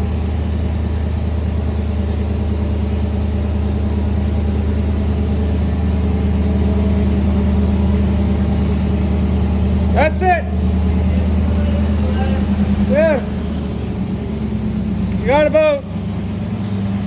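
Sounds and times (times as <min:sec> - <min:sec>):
farm vehicle engine droning: 0:00.0 - 0:17.0.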